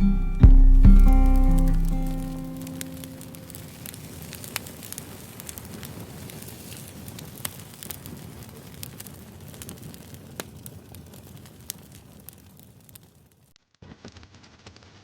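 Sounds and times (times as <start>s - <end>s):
wood fire crackling and popping: 0.4s - 15.0s.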